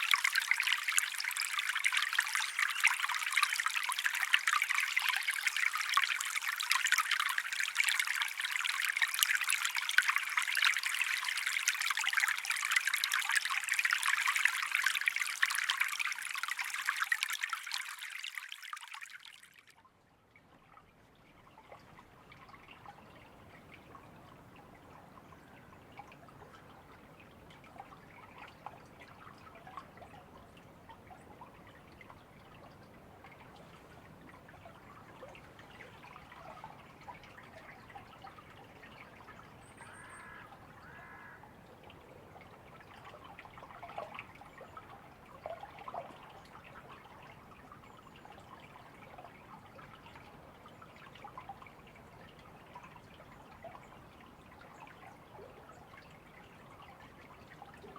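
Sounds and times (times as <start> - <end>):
stream trickling: 0.0 - 57.9.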